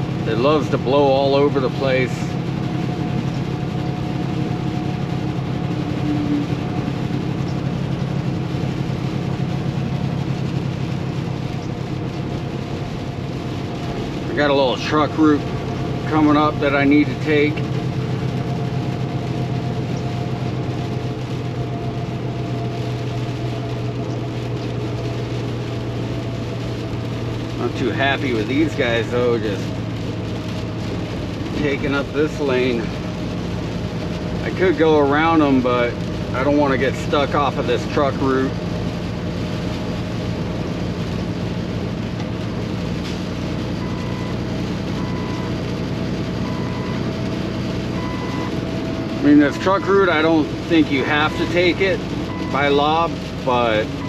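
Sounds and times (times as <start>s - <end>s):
road and wind noise: 0.0s - 54.0s
truck engine humming from inside cab: 0.0s - 54.0s.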